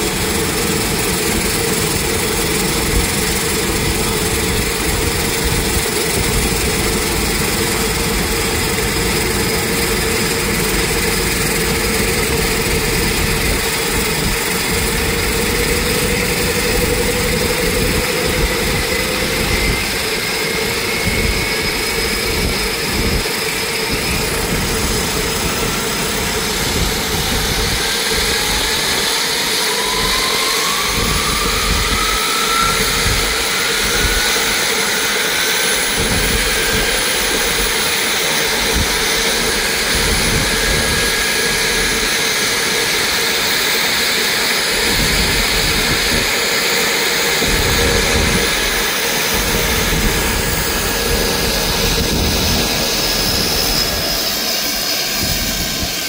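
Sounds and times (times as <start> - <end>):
turboprop engine running: 0.0 - 56.0
whine rising in pitch: 0.2 - 56.0.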